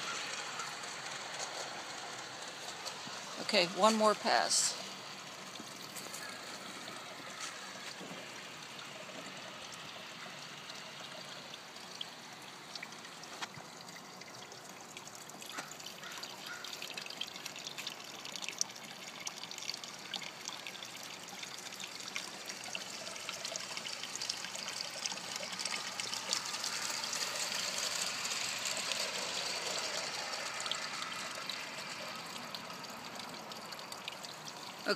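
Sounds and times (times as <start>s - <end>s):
water feature trickling: 0.0s - 34.9s.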